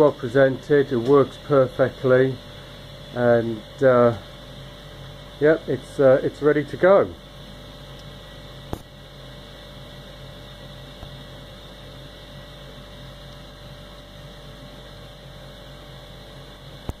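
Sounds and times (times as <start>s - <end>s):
heat pump humming: 0.0s - 17.0s.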